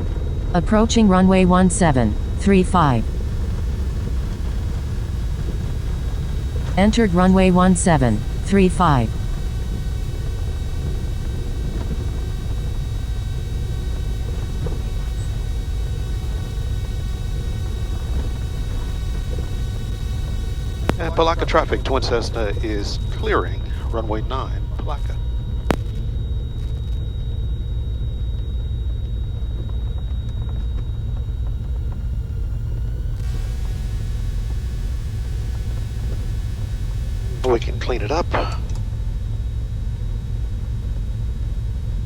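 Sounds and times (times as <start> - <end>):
high-pitched whine: 0.0 - 42.0
piston aircraft engines rumbling: 0.0 - 42.0
faint steady high tone: 0.6 - 42.0.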